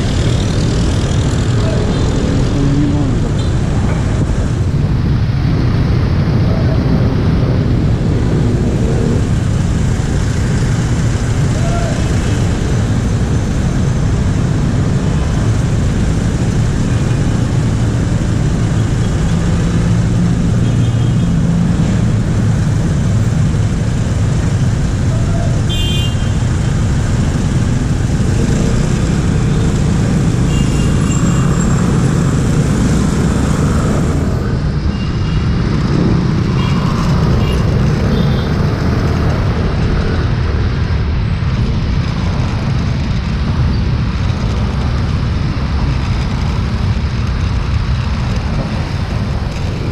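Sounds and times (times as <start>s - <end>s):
street traffic: 0.0s - 49.9s.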